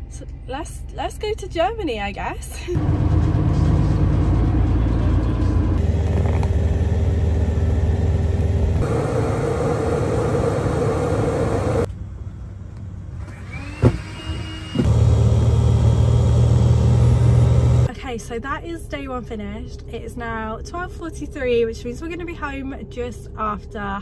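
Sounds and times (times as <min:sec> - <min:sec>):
vehicle rumble inside: 0:00.0 - 0:14.1, 0:14.8 - 0:24.0.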